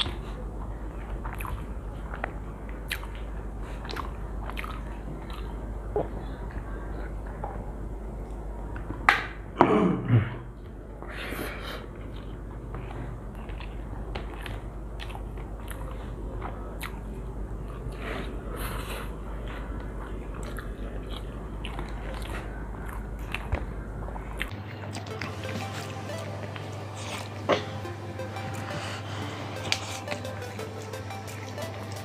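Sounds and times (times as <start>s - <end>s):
people chewing and smacking: 0.0s - 9.6s, 10.5s - 32.0s
low electrical hum: 0.0s - 32.0s.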